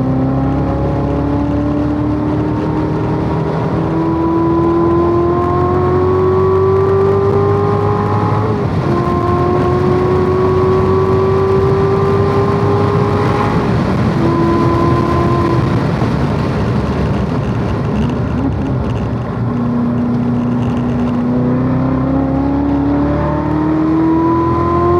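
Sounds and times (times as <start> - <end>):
car engine accelerating: 0.0 - 24.9
road and wind noise: 0.0 - 24.9.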